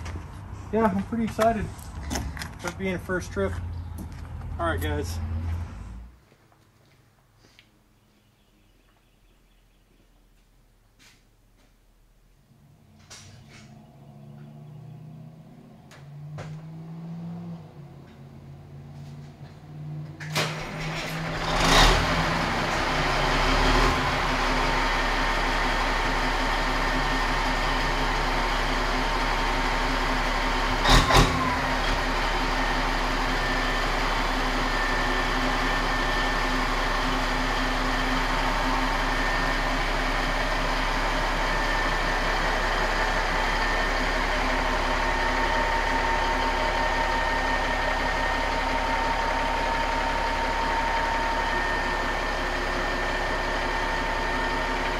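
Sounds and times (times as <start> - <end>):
diesel engine starting and idling: 0.0 - 6.2, 12.4 - 54.9.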